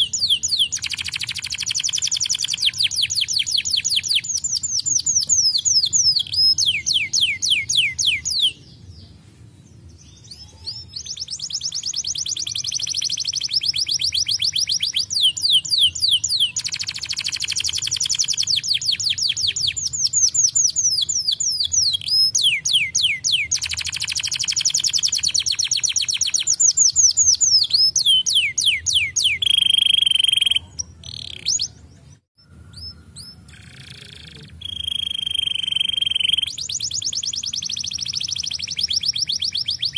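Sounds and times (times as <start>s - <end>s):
canary singing: 0.0s - 9.2s, 9.8s - 39.9s.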